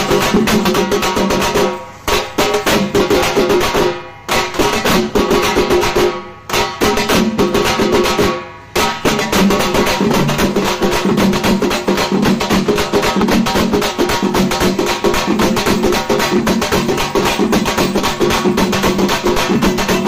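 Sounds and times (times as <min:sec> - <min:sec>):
fast loud drumming: 0:00.0 - 0:20.0.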